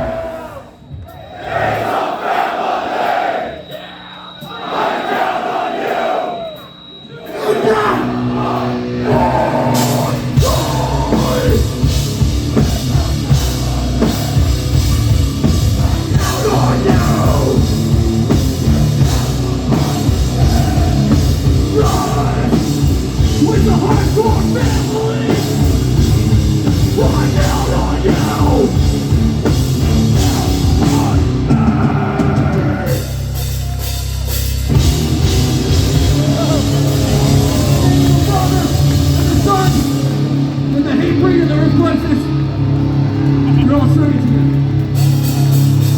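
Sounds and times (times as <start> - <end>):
punk band playing live: 6.4 - 45.9.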